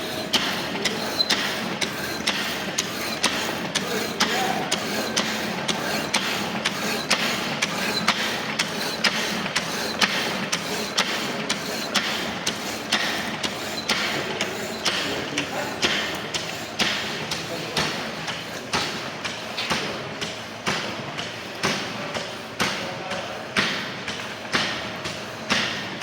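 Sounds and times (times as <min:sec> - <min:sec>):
machine clacking: 0:00.0 - 0:26.0.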